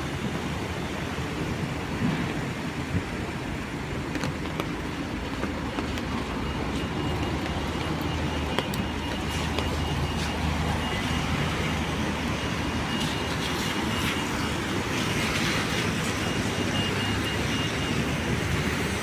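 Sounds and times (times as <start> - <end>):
tyres hissing on wet road: 0.0 - 19.0
vehicle engine hum: 0.0 - 19.0.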